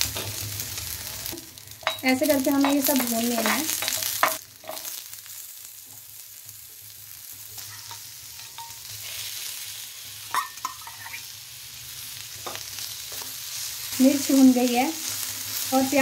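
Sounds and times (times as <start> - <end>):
oil sizzling in a frying pan: 0.0 - 16.0.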